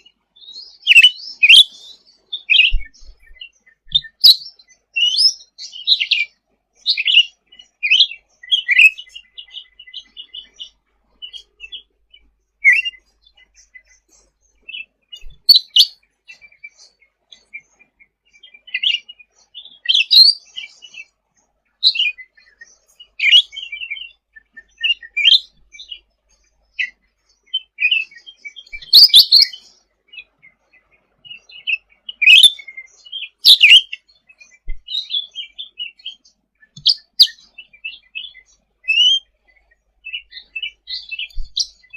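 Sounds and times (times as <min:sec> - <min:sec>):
songbird chirping and trilling: 0:00.0 - 0:41.9.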